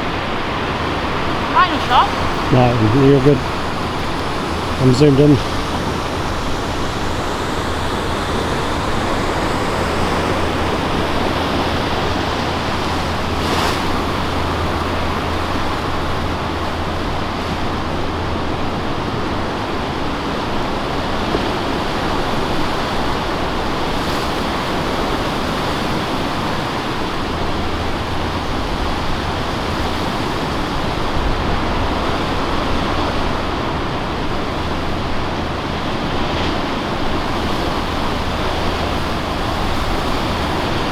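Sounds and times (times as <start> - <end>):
ocean surf roaring: 0.0 - 40.9.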